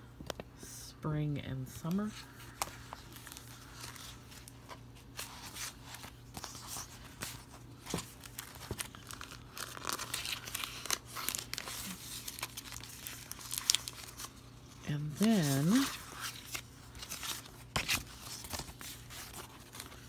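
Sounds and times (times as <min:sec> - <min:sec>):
paper rustling and crinkling: 0:02.0 - 0:20.0.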